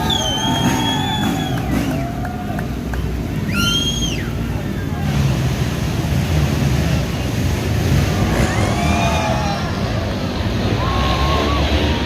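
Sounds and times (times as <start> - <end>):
racing atv engines revving: 0.0 - 12.0.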